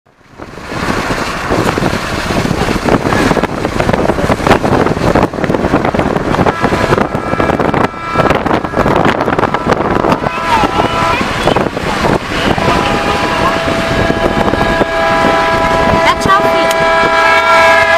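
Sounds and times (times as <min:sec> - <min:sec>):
train rumbling clatter: 0:00.1 - 0:17.9.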